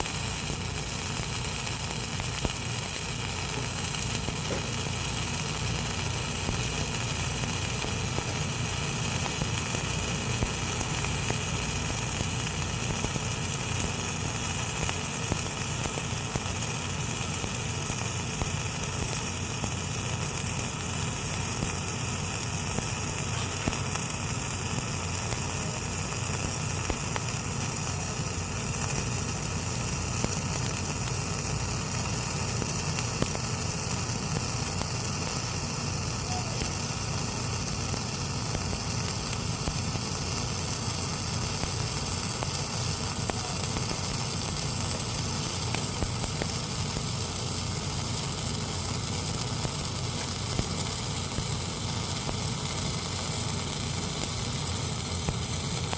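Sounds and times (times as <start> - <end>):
welding arc burning: 0.0 - 55.9.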